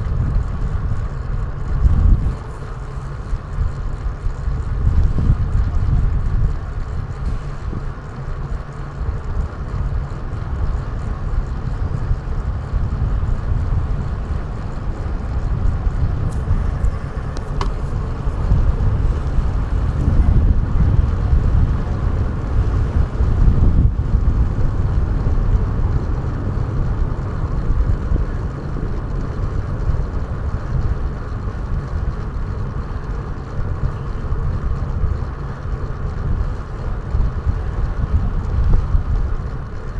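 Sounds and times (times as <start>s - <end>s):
road and traffic rumble: 0.0s - 39.9s
wind buffeting microphone: 0.0s - 39.9s.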